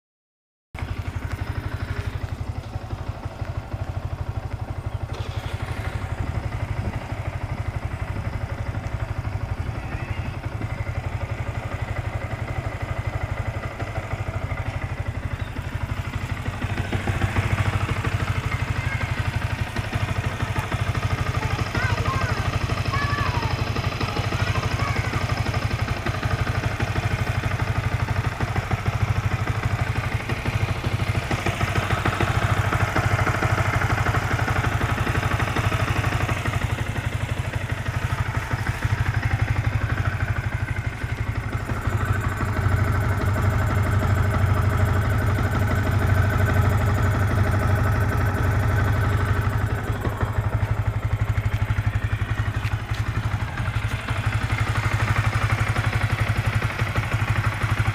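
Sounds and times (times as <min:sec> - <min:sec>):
motorcycle engine idling: 0:00.8 - 0:57.9.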